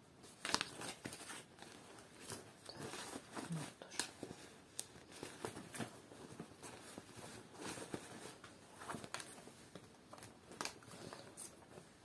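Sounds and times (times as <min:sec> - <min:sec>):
jeans rustling: 0:00.4 - 0:12.0.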